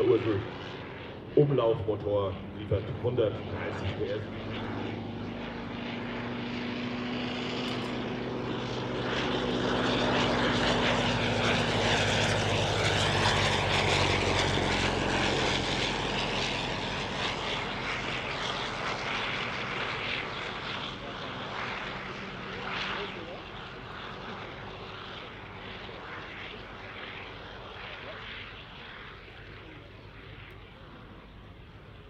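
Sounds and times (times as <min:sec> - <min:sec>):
rotary aircraft engine running: 0:00.0 - 0:32.0.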